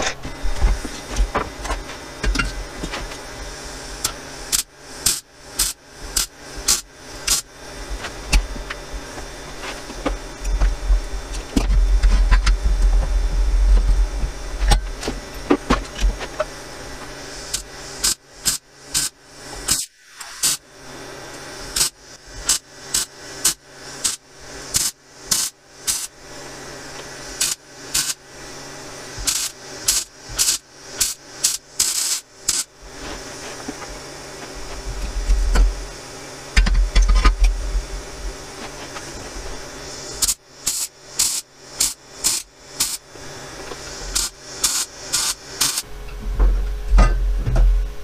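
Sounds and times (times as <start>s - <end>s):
arc welding crackling: 0.0s - 46.2s.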